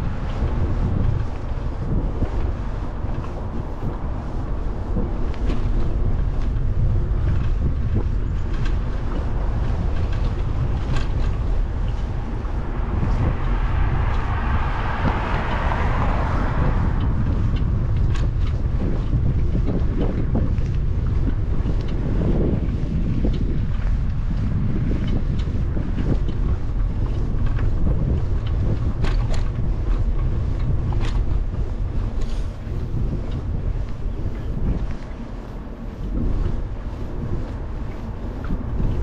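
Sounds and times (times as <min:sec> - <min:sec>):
passing car tyre noise: 0:00.0 - 0:39.0
wind buffeting microphone: 0:00.0 - 0:39.0.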